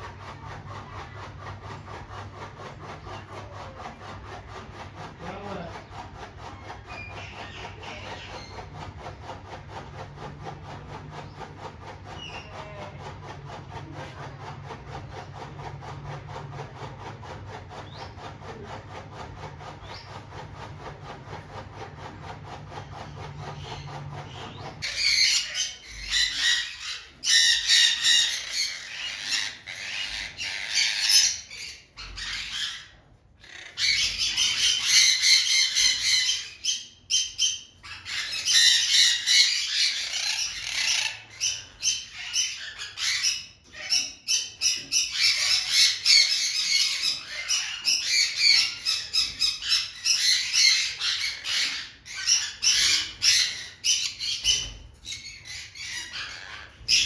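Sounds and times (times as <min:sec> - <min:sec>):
birds squawking and chattering: 0:00.0 - 0:57.0.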